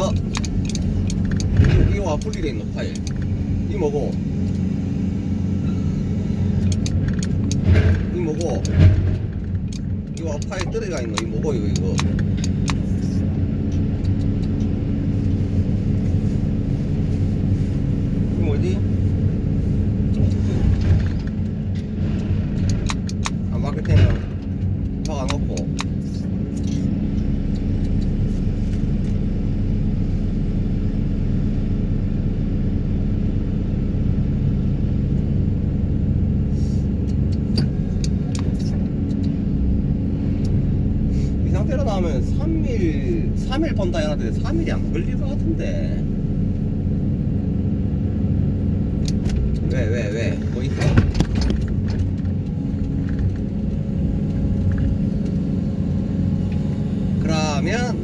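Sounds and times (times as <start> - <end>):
excavator engine droning: 0.0 - 58.0.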